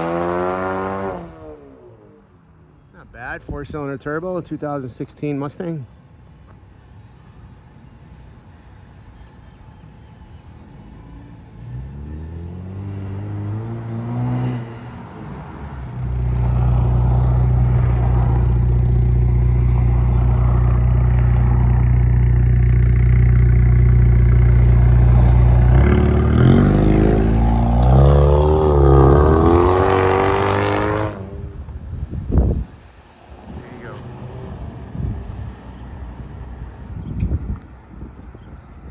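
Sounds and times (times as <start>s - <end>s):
car engine idling and revving: 0.0s - 2.9s, 5.9s - 38.5s.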